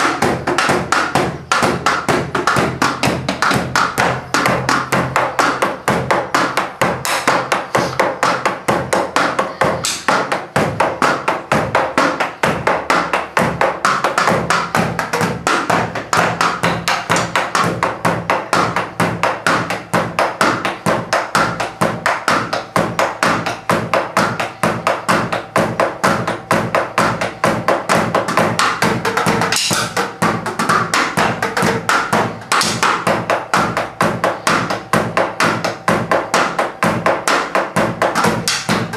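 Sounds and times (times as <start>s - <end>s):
drumsticks tapping rubber pads: 0.0s - 38.9s.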